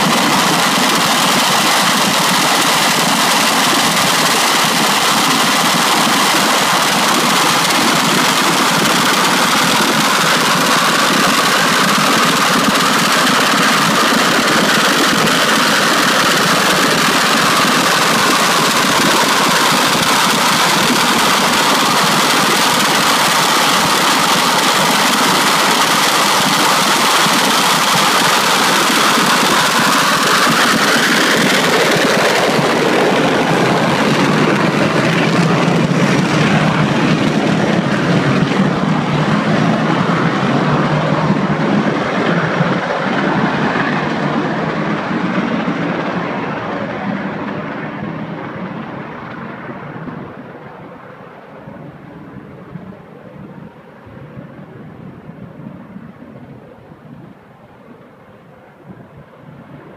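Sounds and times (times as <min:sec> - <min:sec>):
jet engines rushing and whining: 0:00.0 - 0:59.9.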